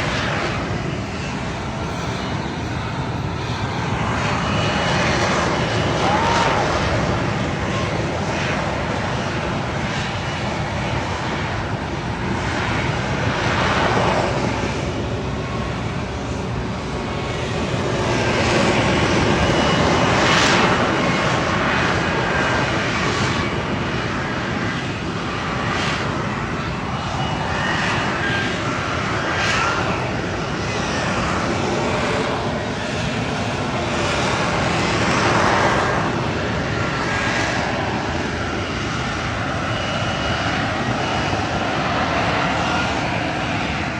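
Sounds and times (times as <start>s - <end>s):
jet engine roaring: 0.0s - 43.9s.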